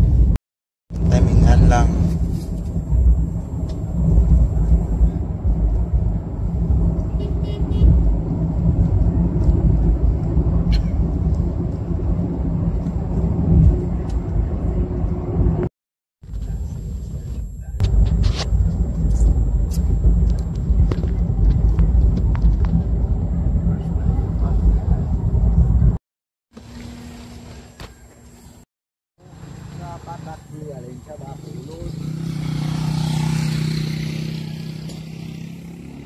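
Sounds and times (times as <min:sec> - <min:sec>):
car engine and tyre rumble: 0:00.0 - 0:26.0, 0:26.6 - 0:36.0.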